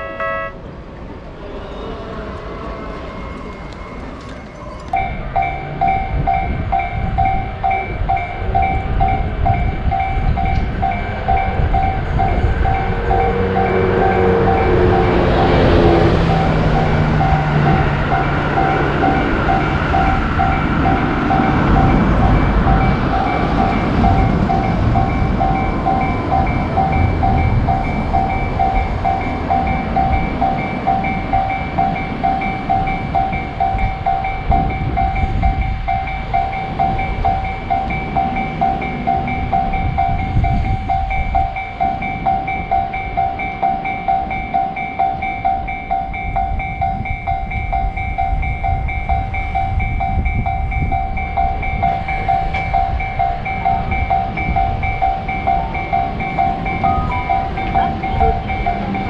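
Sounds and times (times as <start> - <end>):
level-crossing bell ringing: 0.0 - 0.6, 4.9 - 59.0
train passing with low rumble: 0.0 - 59.0.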